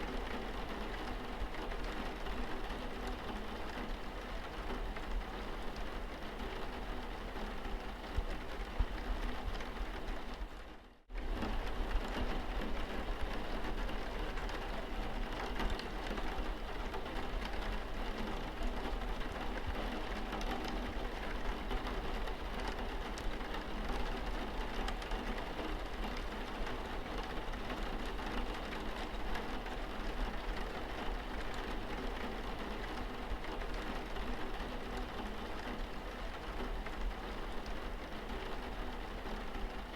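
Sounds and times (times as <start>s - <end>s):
rain pattering on windscreen: 0.0s - 39.9s.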